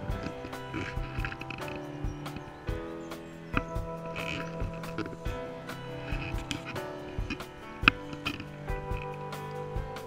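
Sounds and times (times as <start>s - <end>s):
sustained music chords: 0.0s - 10.0s.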